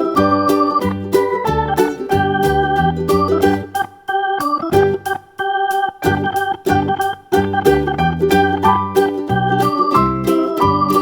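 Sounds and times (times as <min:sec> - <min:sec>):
keyboard chords over beat: 0:00.0 - 0:11.0.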